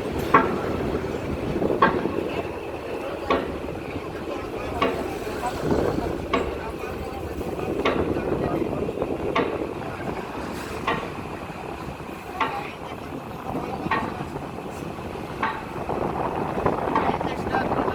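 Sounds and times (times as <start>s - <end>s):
sharp rail clacks: 0.0s - 17.9s
train rumbling on track: 0.0s - 17.9s.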